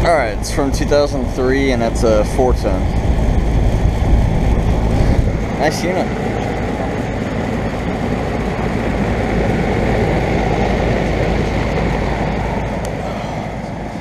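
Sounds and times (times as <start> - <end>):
air conditioner fan whooshing: 0.0 - 14.0.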